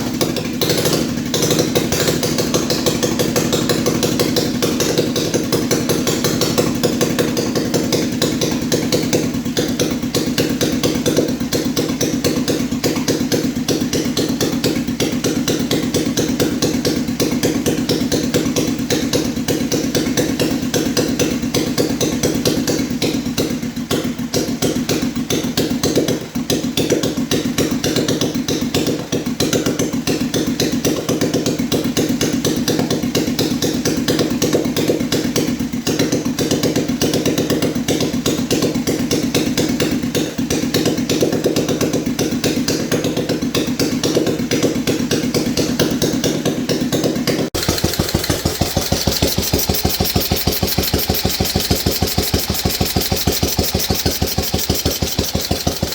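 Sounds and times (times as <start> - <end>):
single-cylinder engine running: 0.0 - 55.9.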